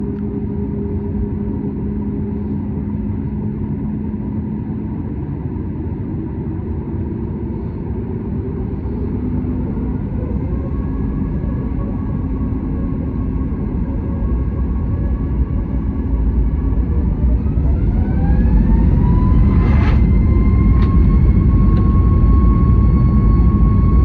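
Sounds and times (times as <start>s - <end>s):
jet engines roaring at takeoff: 0.0s - 24.0s.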